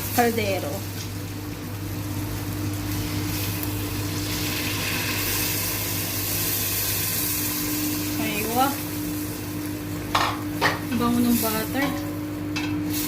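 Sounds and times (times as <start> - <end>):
chicken sizzling in a pot: 0.0 - 13.0.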